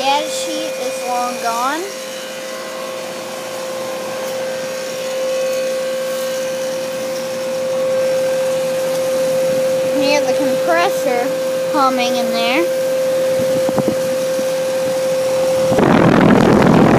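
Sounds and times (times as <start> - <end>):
compressor humming: 0.0 - 16.9
fan blowing air: 0.0 - 16.9.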